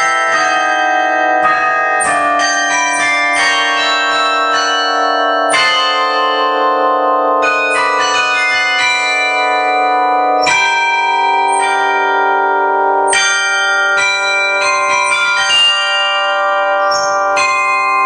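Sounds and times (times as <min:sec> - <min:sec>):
tower bells playing a melody: 0:00.0 - 0:18.0.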